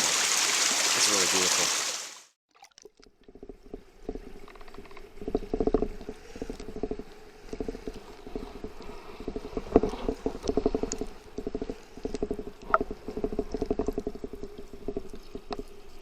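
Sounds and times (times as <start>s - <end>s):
underwater crackling and bubbling: 2.6s - 16.0s.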